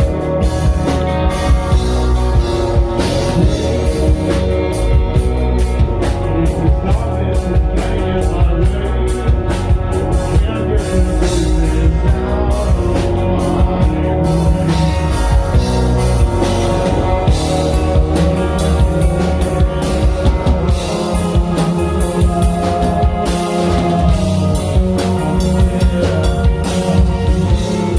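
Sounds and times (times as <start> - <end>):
rock band playing: 0.0 - 27.9.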